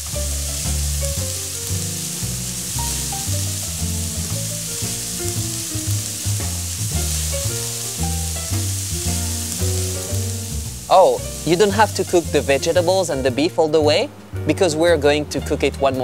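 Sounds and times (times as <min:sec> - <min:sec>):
food sizzling in a frying pan: 0:00.0 - 0:13.4
background music with low notes: 0:00.0 - 0:16.0.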